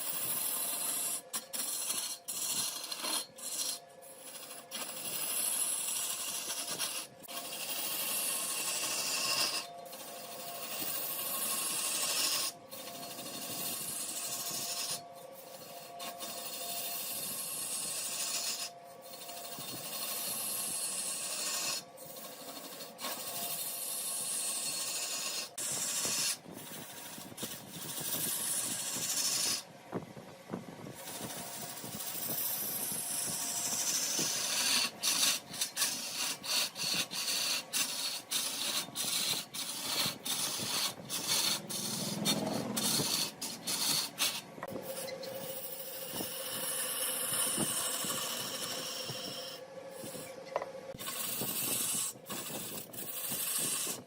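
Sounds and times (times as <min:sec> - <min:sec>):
lathe tool scraping spinning wood: 0:00.0 - 0:29.7, 0:30.9 - 0:54.0.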